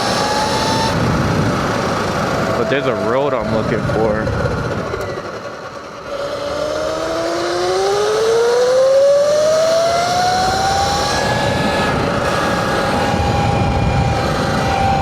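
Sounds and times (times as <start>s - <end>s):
electric motor whining: 0.0s - 15.0s
rushing wind noise: 0.0s - 15.0s.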